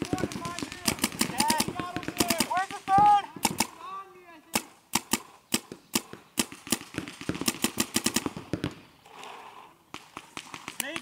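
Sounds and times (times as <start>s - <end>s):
paintball markers firing: 0.0s - 3.8s, 4.5s - 11.0s.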